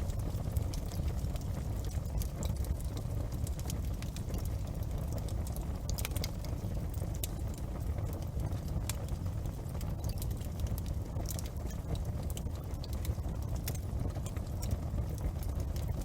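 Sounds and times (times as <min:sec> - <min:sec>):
bonfire crackling and rumbling: 0:00.0 - 0:16.0.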